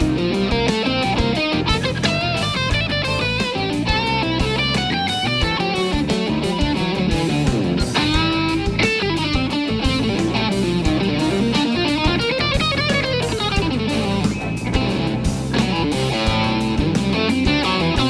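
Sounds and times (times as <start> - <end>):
bass: 0.0 - 18.0
drums: 0.0 - 18.0
electric guitar solo: 0.0 - 18.0.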